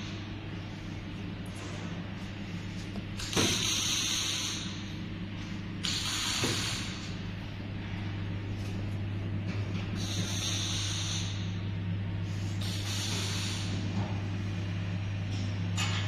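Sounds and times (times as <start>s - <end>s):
test bench humming: 0.0s - 16.0s.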